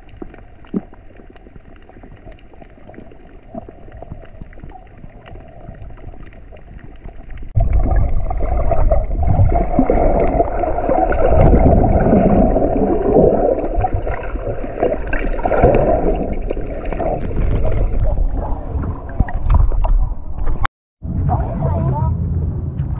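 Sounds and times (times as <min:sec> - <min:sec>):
muffled underwater rushing water: 0:00.0 - 0:22.0.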